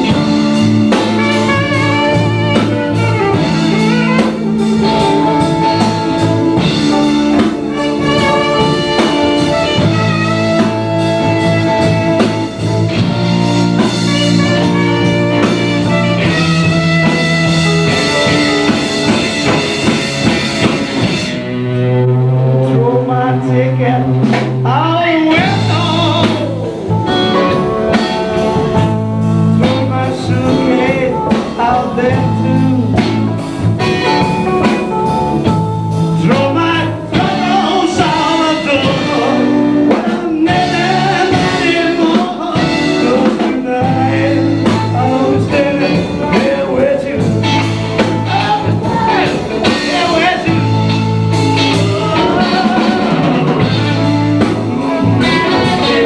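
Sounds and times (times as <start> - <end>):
person singing: 0.0 - 18.4, 22.4 - 35.0, 36.1 - 56.0
repeating bass line: 0.0 - 39.9, 40.5 - 56.0
live blues band: 0.0 - 56.0.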